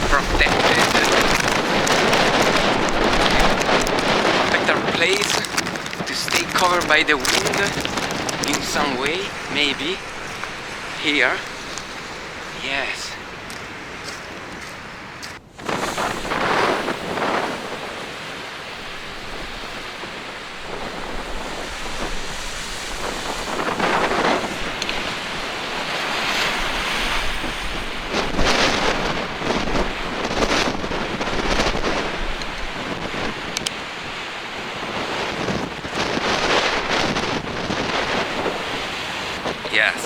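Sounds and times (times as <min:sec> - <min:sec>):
storm surf breaking: 0:00.0 - 0:40.0
wind buffeting microphone: 0:00.0 - 0:40.0.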